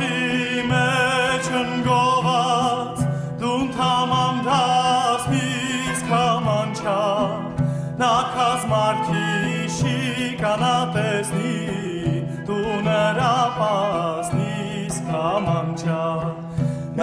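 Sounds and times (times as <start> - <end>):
folk ensemble playing: 0.0 - 17.0.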